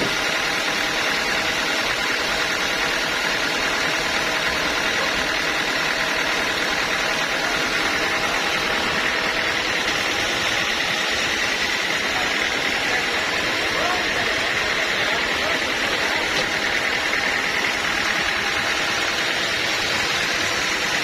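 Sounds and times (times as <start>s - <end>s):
high machine whine: 0.0s - 21.0s
sawmill machinery running: 0.0s - 21.0s.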